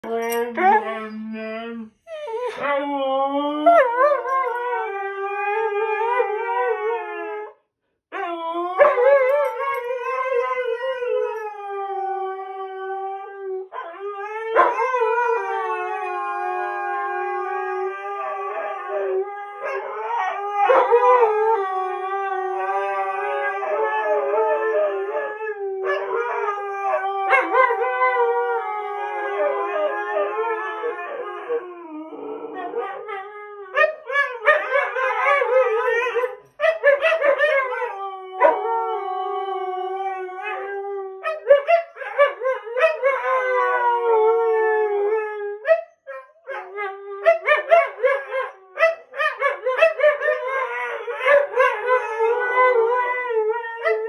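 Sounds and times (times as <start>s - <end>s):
dogs howling: 2.1s - 7.6s, 8.2s - 54.0s.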